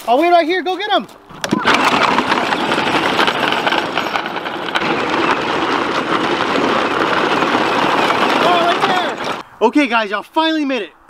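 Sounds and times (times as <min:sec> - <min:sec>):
plastic wheels crunching over gravel: 0:00.0 - 0:09.4.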